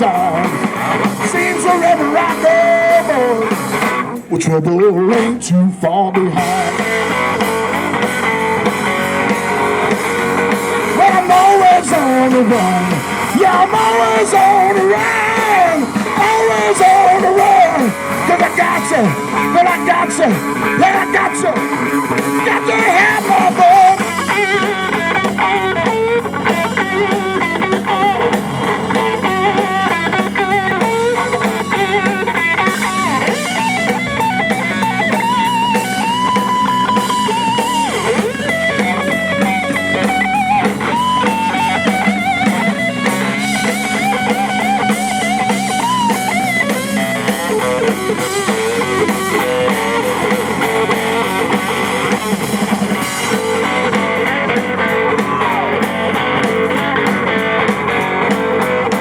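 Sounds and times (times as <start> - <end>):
drum kit: 0.0 - 59.0
electric guitar lead: 0.0 - 59.0.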